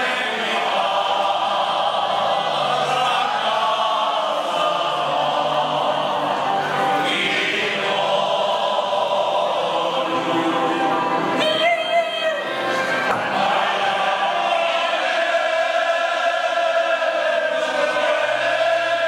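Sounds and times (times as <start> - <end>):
men's choir singing: 0.0 - 11.5, 12.7 - 19.0.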